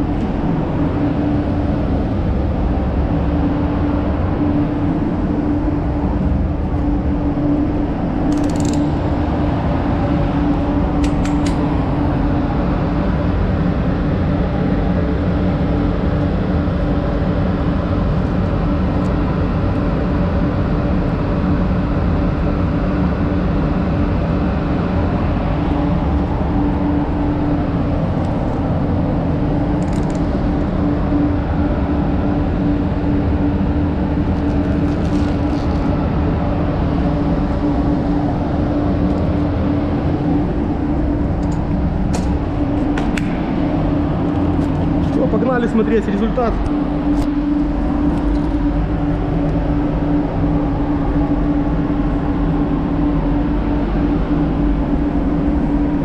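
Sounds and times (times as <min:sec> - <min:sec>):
ventilation fans humming: 0:00.0 - 0:56.0.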